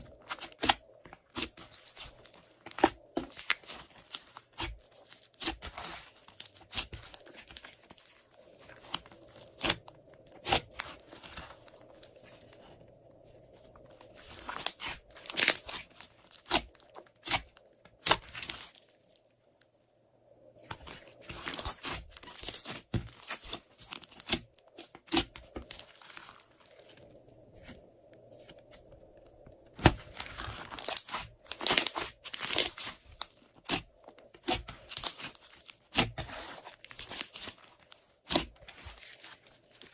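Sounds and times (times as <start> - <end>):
hands squishing slime: 0.0 - 12.8, 14.1 - 18.8, 20.7 - 26.4, 29.8 - 39.9.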